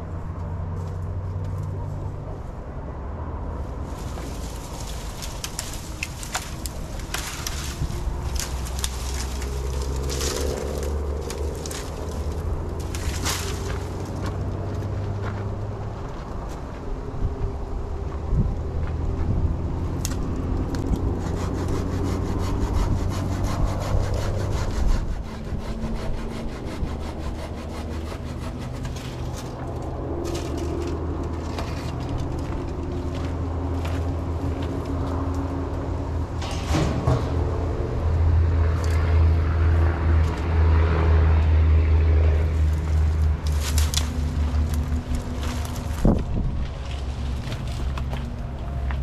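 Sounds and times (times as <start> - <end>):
engine humming: 0.0 - 49.0.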